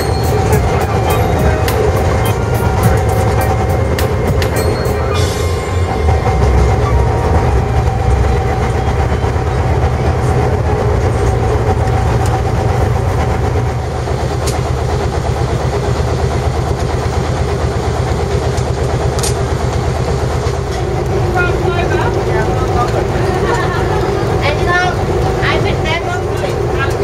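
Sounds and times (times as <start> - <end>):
boat engine rumbling: 0.0 - 27.0.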